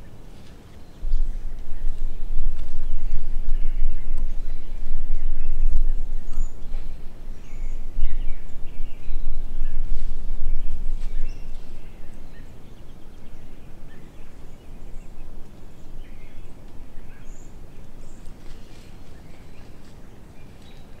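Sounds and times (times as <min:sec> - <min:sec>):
faint bird chirps: 0:00.0 - 0:21.0
low rumble on microphone: 0:00.0 - 0:21.0.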